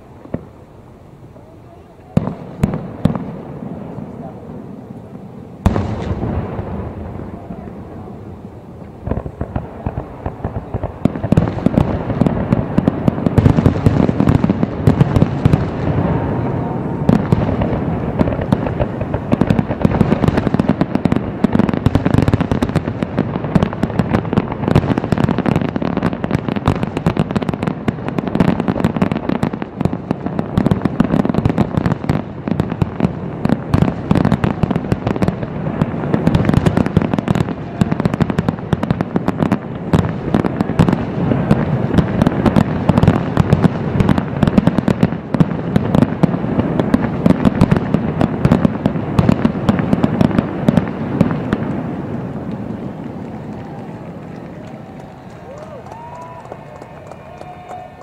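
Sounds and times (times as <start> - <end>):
fireworks bursting: 0.0 - 58.0.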